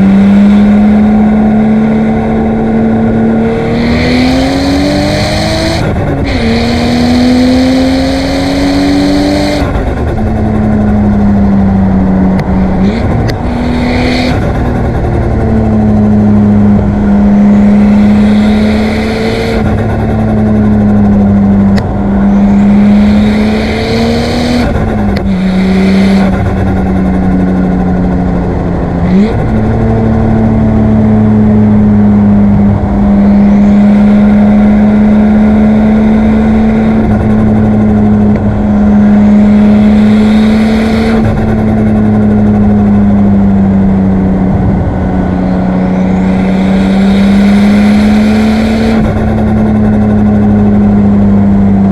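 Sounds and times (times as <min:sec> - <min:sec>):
car engine running hard: 0:00.0 - 0:51.9.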